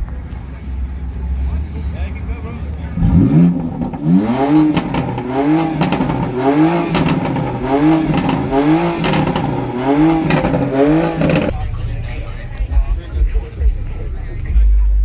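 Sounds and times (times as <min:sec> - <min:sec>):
car engine revving: 0:00.0 - 0:14.5
exhaust cracks: 0:00.0 - 0:14.5.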